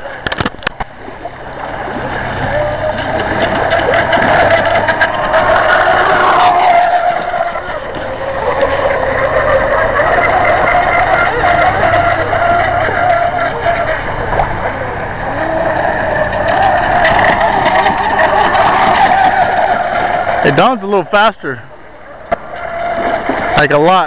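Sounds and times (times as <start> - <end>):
model boat electric motors whining: 0.0 - 24.0.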